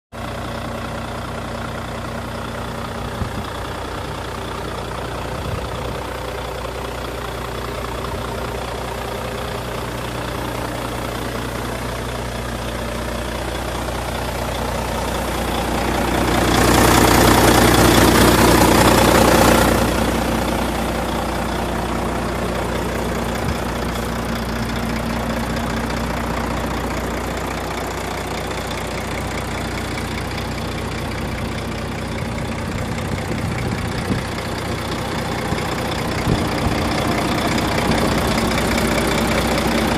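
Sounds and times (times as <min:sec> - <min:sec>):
diesel truck engine idling: 0:00.1 - 0:39.9.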